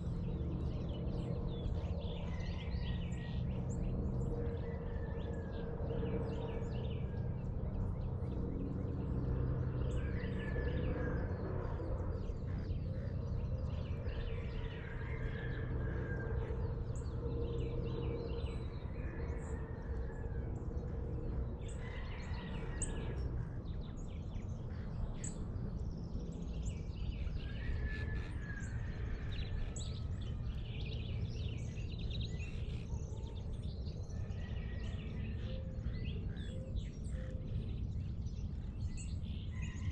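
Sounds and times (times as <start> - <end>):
birds calling and chirping: 0.0 - 39.9
low rumble and hum: 0.0 - 39.9.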